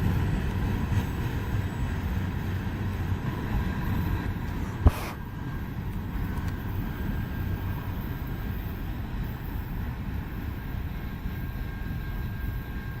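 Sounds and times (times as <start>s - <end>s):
train cars rumbling on track: 0.0s - 13.0s.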